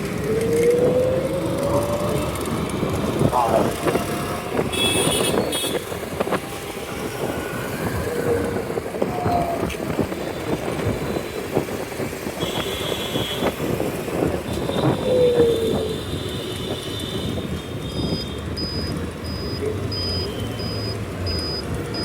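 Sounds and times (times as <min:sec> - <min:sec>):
wind on microphone: 0:00.0 - 0:18.2
road and traffic noise: 0:00.0 - 0:22.0.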